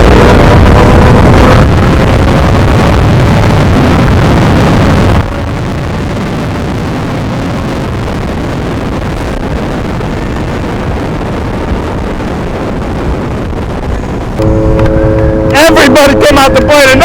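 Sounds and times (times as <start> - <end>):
motorcycle engine: 0.0 - 9.5, 11.8 - 17.0
road noise: 0.0 - 17.0
wind buffeting microphone: 0.0 - 17.0.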